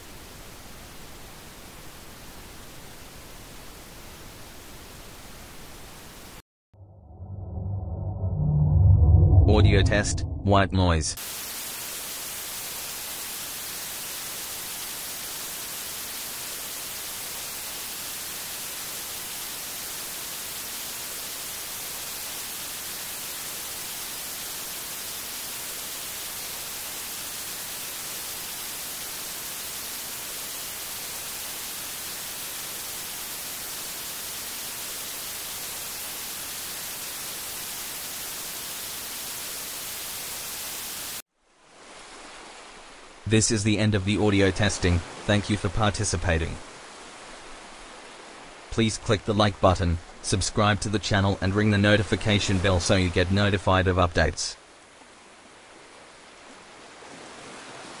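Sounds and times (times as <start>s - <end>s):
white noise hiss: 0.0s - 6.4s, 11.2s - 58.0s.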